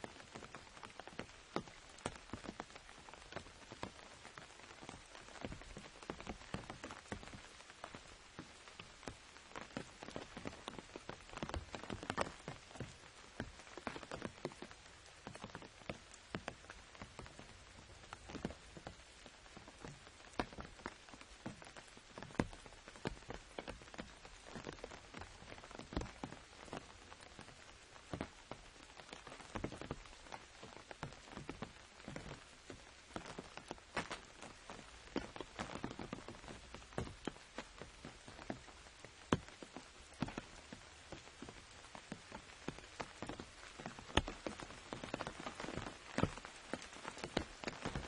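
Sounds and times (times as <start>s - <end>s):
rain pattering on an umbrella: 0.0s - 48.0s.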